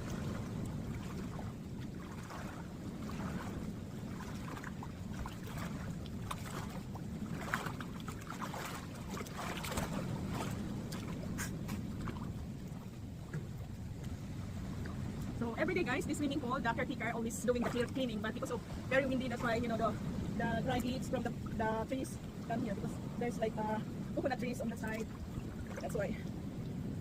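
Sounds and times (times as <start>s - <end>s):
pool water splashing: 0.0s - 26.3s.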